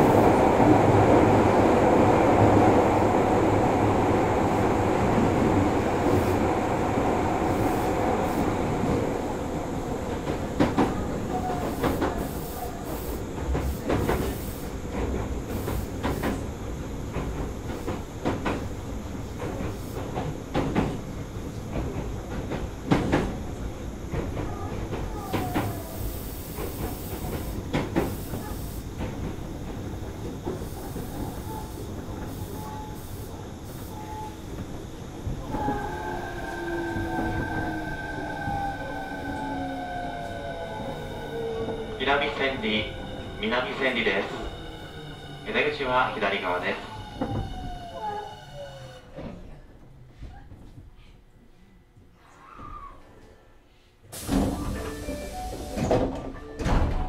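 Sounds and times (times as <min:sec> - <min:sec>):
train rumbling and rolling: 0:00.0 - 0:51.0, 0:54.1 - 0:57.0.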